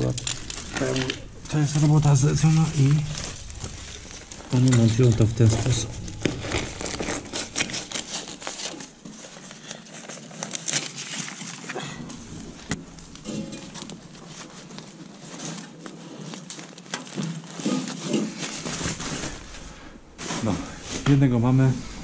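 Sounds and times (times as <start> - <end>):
foil duct crinkling: 0.0 - 22.0.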